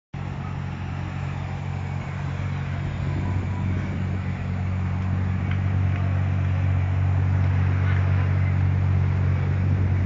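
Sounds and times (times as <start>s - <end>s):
car engine running: 0.2s - 10.0s.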